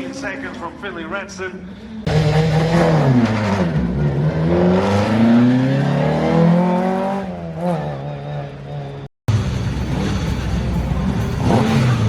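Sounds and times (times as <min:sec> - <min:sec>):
rally car engine revving: 0:02.0 - 0:12.0.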